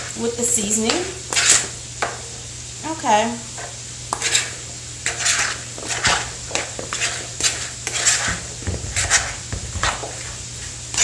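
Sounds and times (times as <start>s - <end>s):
utensil scraping a mixing bowl: 0.0s - 2.3s, 3.5s - 11.0s.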